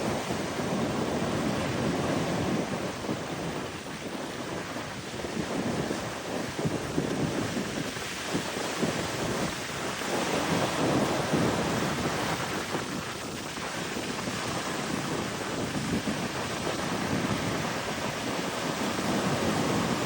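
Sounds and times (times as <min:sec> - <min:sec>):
ocean surf washing up beach: 0:00.0 - 0:20.0
wind buffeting microphone: 0:00.0 - 0:20.0.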